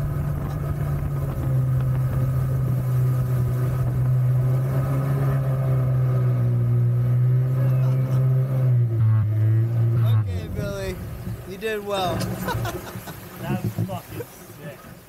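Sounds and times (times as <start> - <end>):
jet boat engine running: 0.0 - 15.0.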